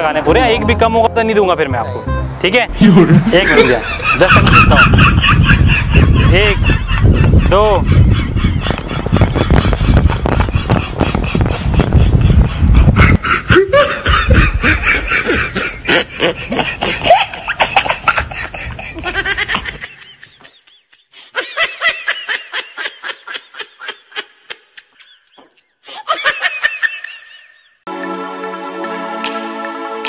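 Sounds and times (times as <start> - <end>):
outdoor noise: 0.0 - 27.9
person laughing: 2.7 - 27.8.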